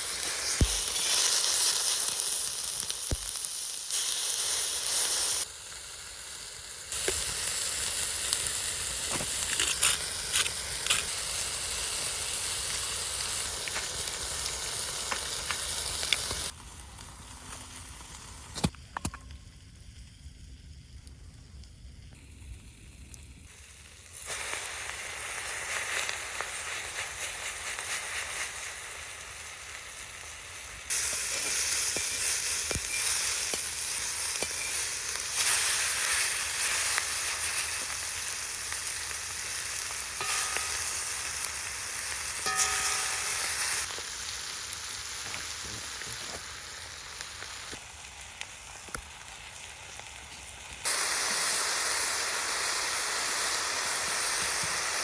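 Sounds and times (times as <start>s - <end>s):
meat sizzling over campfire: 0.0s - 55.0s.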